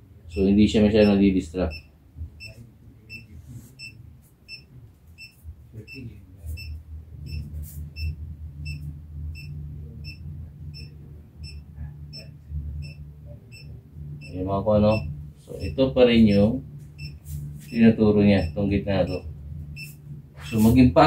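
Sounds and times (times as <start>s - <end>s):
low hum: 0.0s - 21.0s
high-pitched detector beeps: 0.3s - 20.8s.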